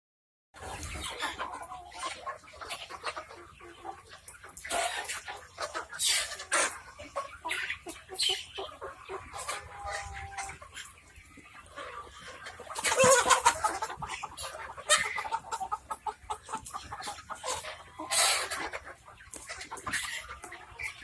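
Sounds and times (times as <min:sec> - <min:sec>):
chickens clucking: 0:00.6 - 0:21.0.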